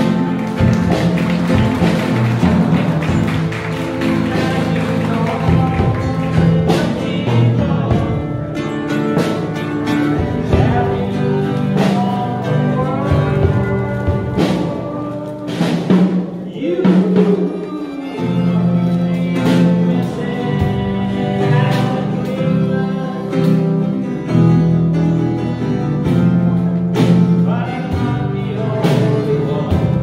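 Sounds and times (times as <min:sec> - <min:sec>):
guitar music: 0:00.0 - 0:30.0.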